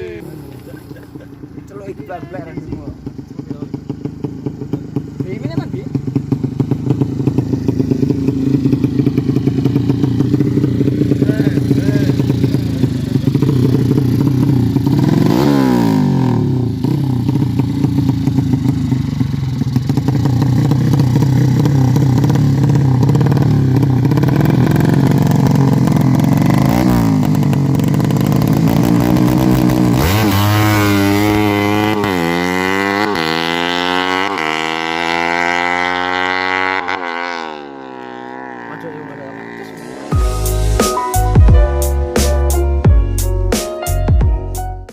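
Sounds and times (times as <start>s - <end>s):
motorcycle engine revving: 0.0s - 41.4s.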